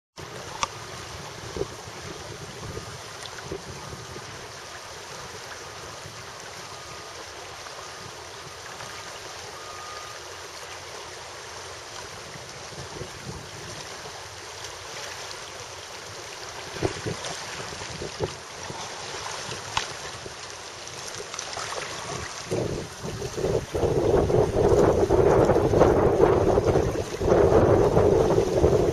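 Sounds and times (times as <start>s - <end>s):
wind on microphone: 0.2s - 10.2s, 11.9s - 14.2s, 16.0s - 28.9s
river water rushing: 0.2s - 28.9s.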